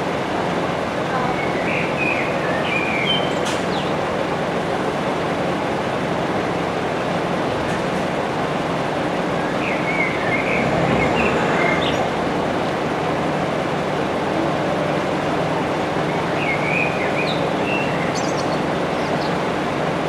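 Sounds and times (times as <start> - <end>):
vehicle rumble: 0.0 - 20.0.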